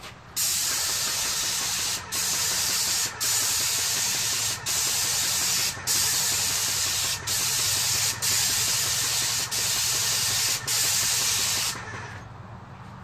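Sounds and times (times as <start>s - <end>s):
paint sprayer hissing: 0.0s - 12.2s.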